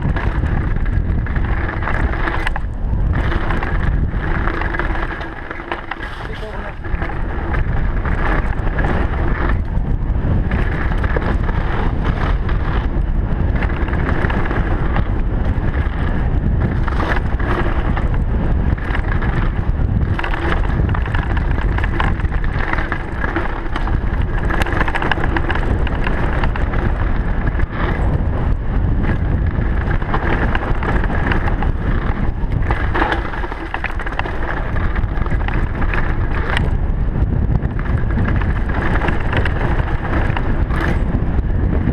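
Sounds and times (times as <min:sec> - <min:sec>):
tyres on dirt and stones: 0:00.0 - 0:28.2, 0:29.1 - 0:36.7
bike rattling and knocking: 0:00.0 - 0:41.9
wind buffeting microphone: 0:00.0 - 0:41.9.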